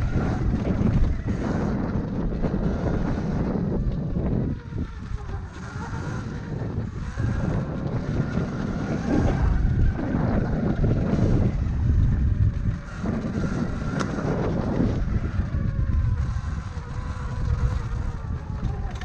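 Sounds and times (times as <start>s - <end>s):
electric motor whine: 0.0s - 19.0s
low rumble: 0.0s - 19.0s
wind buffeting microphone: 0.0s - 19.0s.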